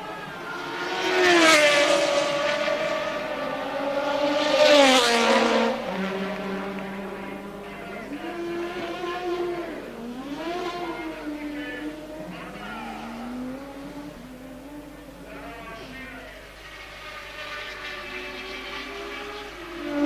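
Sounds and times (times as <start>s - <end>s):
distant racing engine: 0.0s - 20.0s
racing cars passing at full throttle: 0.0s - 20.0s.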